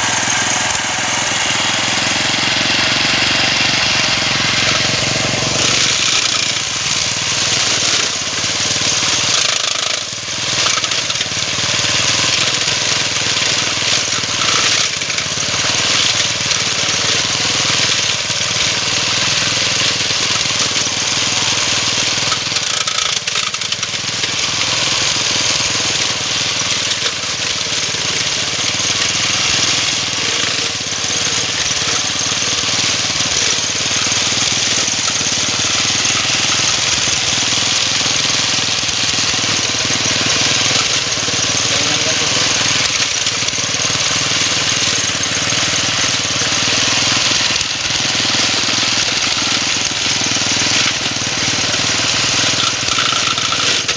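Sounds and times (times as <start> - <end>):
blade cutting thick grass: 0.0 - 53.9
grass cutter engine running: 0.0 - 53.9.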